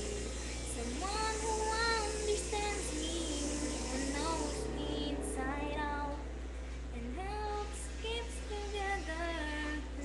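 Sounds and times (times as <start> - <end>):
girl singing slow melody: 0.0 - 10.0.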